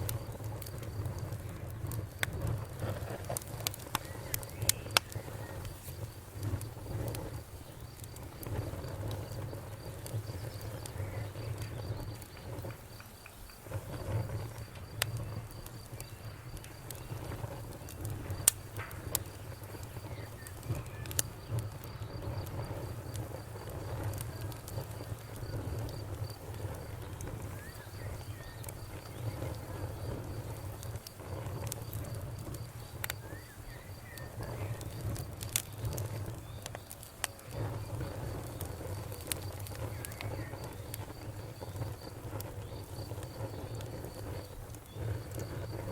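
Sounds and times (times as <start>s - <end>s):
campfire crackling and popping: 0.0s - 45.9s
pulsing insect chirp: 3.7s - 45.9s.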